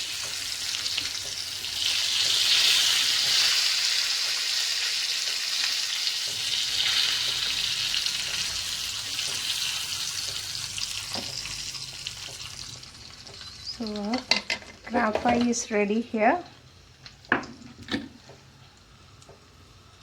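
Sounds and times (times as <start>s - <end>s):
crab sizzling in oil: 0.0s - 17.7s.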